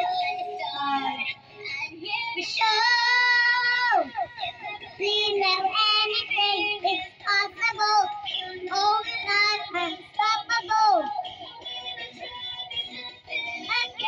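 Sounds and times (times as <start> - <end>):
girl singing into microphone: 0.0 - 11.3, 13.6 - 14.0.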